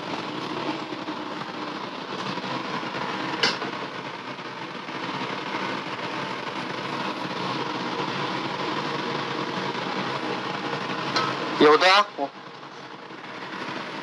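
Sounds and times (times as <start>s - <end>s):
gas stove burner roaring: 0.0s - 14.0s.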